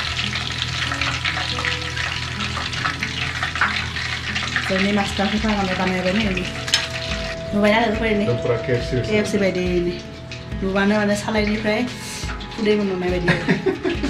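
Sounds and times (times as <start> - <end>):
chicken deep-frying in oil: 0.0 - 7.4, 9.8 - 14.0.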